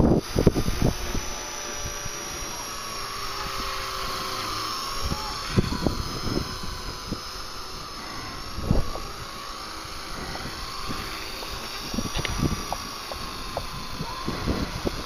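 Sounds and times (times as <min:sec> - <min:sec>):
wind gusts on microphone: 0:00.0 - 0:02.5, 0:05.0 - 0:15.0
rc helicopter motor whine: 0:00.0 - 0:15.0.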